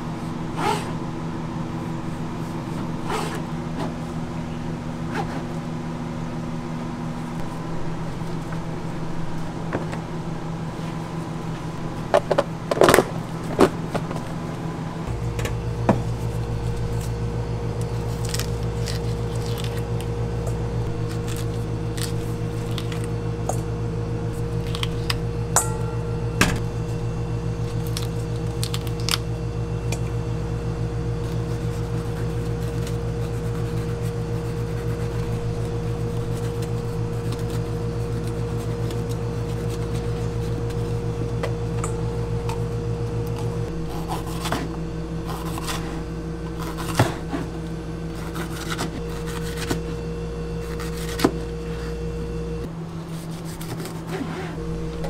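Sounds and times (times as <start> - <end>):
kitchen equipment hum: 0.0 - 55.0.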